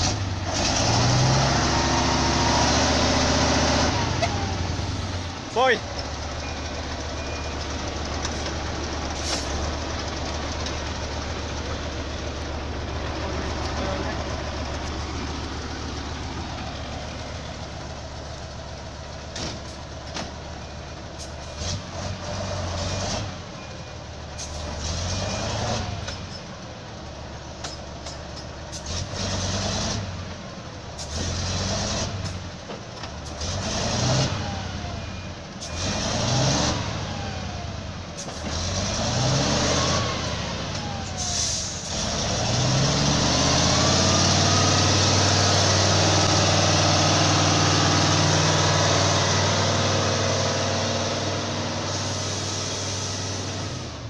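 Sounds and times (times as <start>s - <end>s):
diesel truck engine revving: 0.0s - 26.3s, 28.6s - 54.0s.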